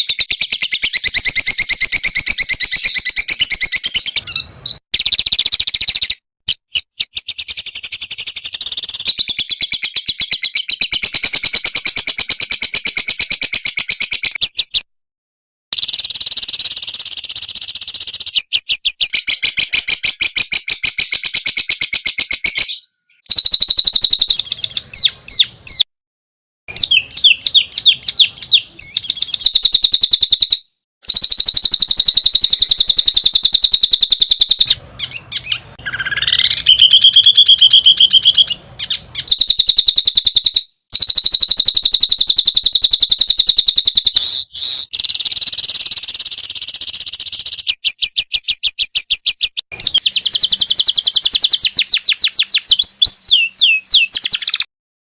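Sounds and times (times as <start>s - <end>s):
songbird song: 0.0s - 14.9s, 15.7s - 25.9s, 26.7s - 54.7s.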